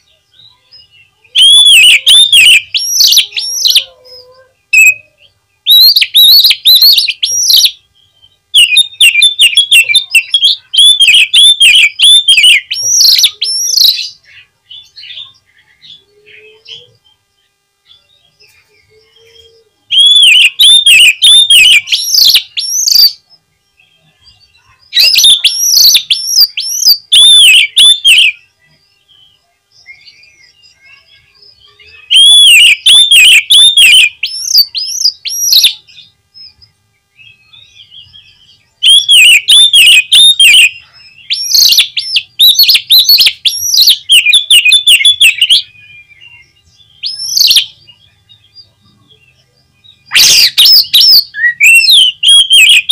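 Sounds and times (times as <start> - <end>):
bird singing whistled notes: 0.0 - 52.9.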